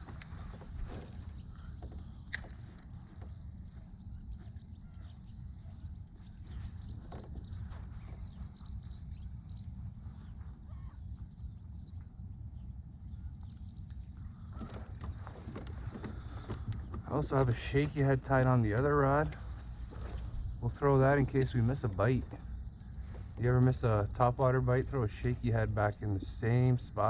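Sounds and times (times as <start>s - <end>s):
small birds chirping: 0.0s - 27.0s
steady low rumble: 0.0s - 27.0s.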